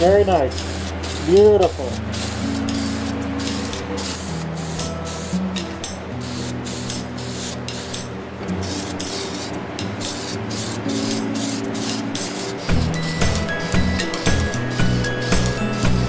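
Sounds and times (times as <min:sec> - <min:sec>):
background music low notes: 0:00.0 - 0:16.0
spray paint can hissing: 0:00.0 - 0:16.0.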